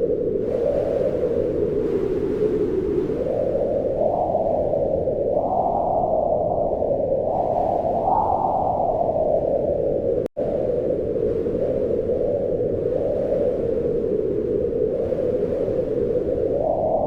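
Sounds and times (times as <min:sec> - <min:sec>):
wind blowing in gusts: 0:00.0 - 0:17.0.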